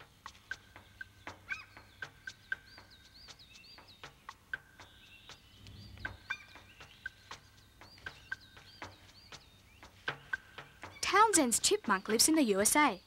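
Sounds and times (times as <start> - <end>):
small animals chirping and clicking: 0.0 - 13.0.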